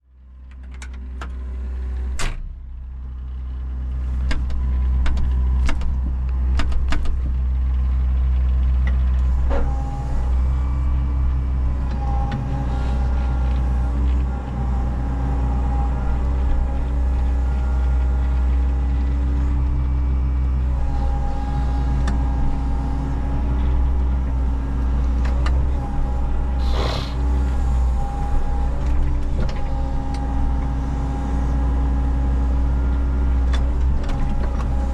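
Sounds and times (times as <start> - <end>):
diesel excavator engine running: 0.1 - 34.9.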